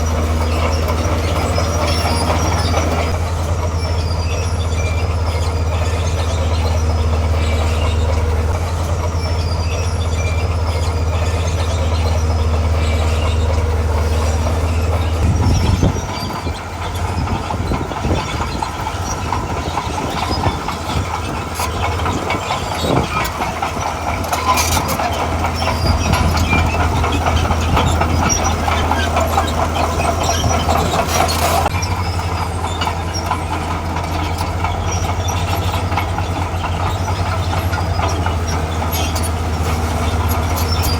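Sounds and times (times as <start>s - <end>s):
diesel engine drone: 0.0s - 40.9s
steel crawler tracks clattering: 0.0s - 40.9s.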